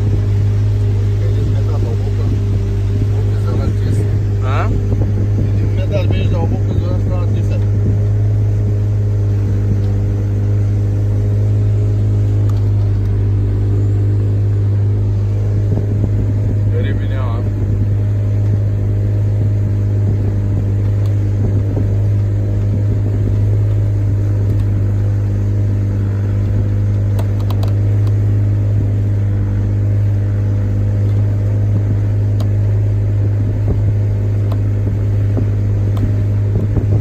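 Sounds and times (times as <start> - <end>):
speedboat engine droning: 0.0 - 37.0.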